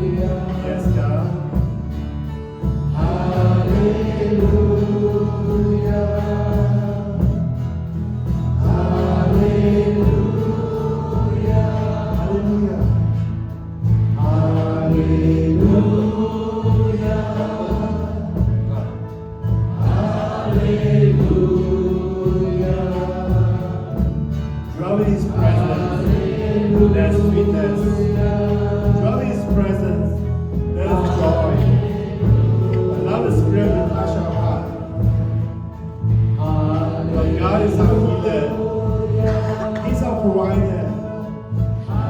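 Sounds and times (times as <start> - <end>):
choir singing over a band: 0.0 - 42.0
low bass: 0.0 - 42.0.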